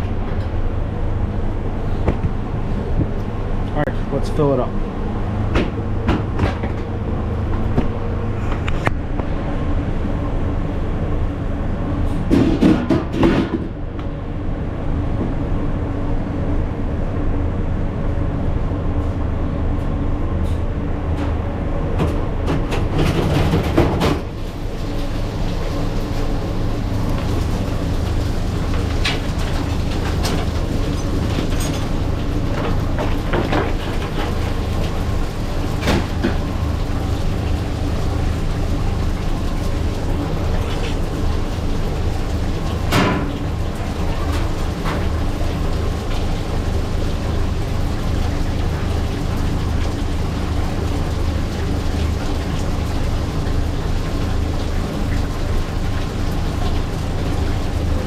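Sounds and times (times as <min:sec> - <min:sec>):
loud machine hum: 0:00.0 - 0:58.0.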